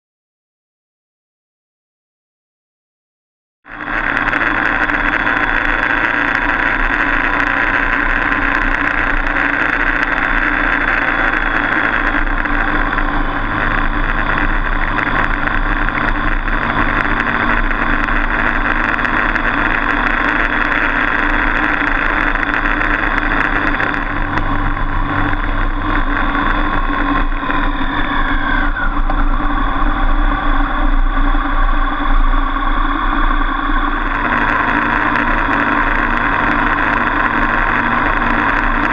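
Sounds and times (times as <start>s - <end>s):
motorcycle engine running: 3.7s - 38.9s.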